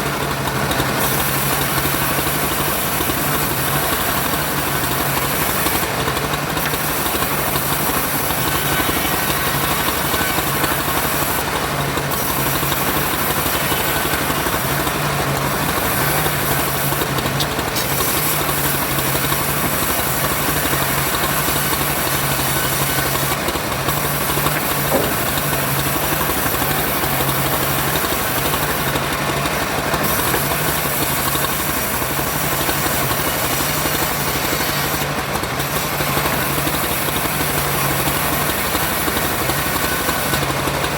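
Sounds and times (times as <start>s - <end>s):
engine running steadily: 0.0s - 40.9s
hiss: 0.1s - 40.9s.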